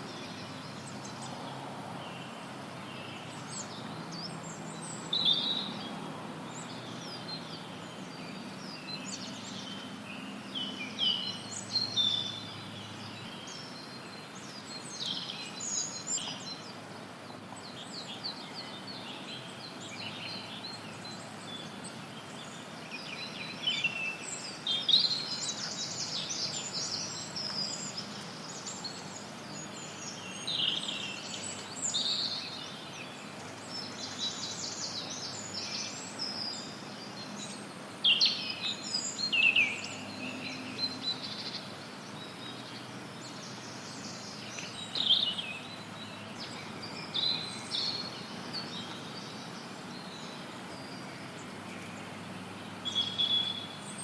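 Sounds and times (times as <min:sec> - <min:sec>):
songbirds chirping and trilling: 0:00.0 - 0:54.0
white noise hiss: 0:00.0 - 0:54.0.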